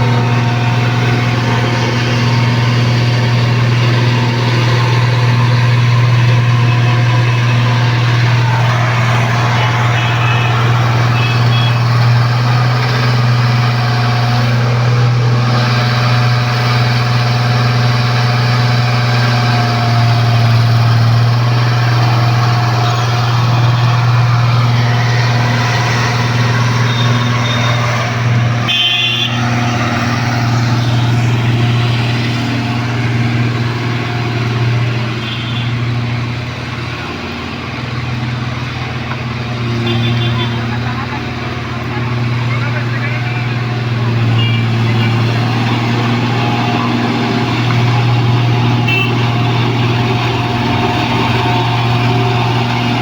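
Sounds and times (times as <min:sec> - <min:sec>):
diesel engine running with low hum: 0:00.0 - 0:53.0.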